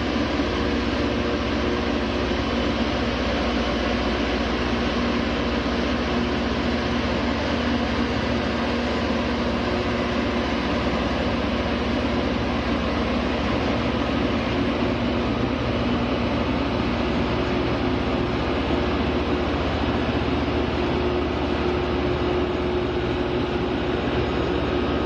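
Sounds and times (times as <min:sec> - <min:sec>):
diesel engine droning: 0:00.0 - 0:25.0.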